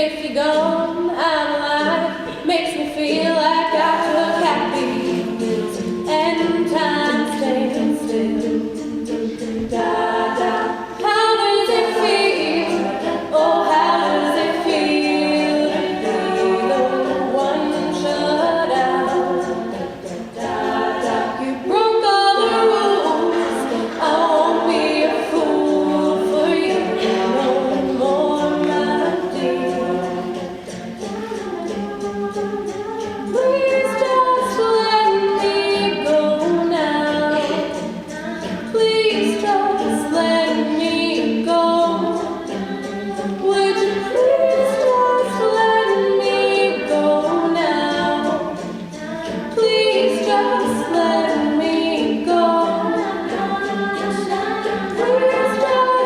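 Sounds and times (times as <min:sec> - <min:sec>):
a cappella group singing: 0:00.0 - 0:56.0.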